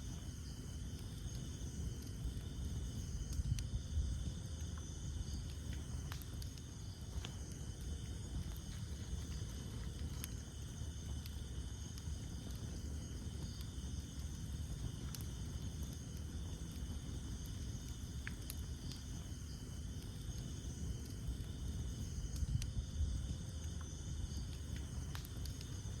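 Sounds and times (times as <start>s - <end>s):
campfire crackling: 0.0s - 26.0s
insects chirring: 0.0s - 26.0s.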